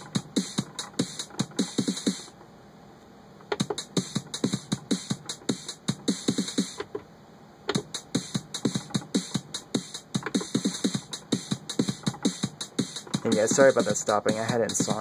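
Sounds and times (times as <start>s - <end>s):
hi-hats ticking: 0.0s - 2.4s, 3.5s - 6.9s, 7.7s - 15.0s.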